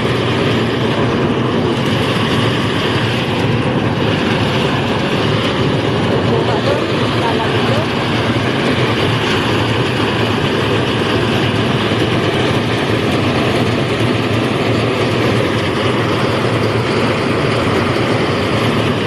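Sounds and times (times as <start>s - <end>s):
engine-driven thresher running: 0.0s - 19.0s.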